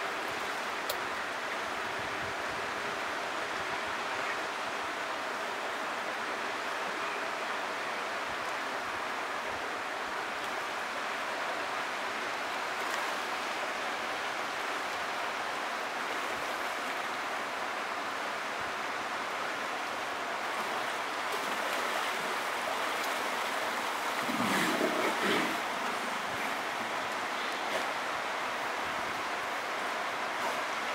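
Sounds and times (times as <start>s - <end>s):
creek water rushing: 0.0s - 30.9s.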